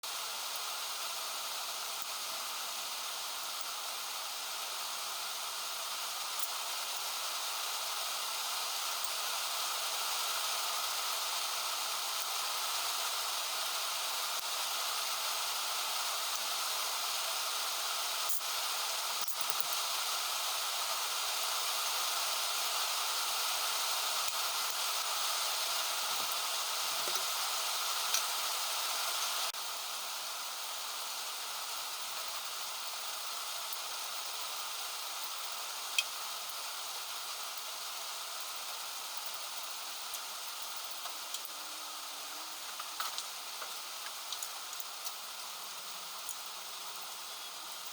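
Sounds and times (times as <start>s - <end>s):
heavy rain hissing: 0.1s - 47.9s.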